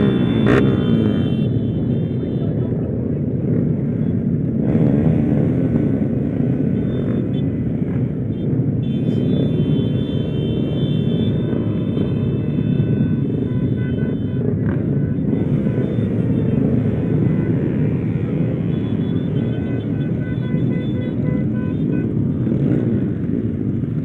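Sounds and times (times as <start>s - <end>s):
motorcycle engine rumble: 0.0s - 24.0s.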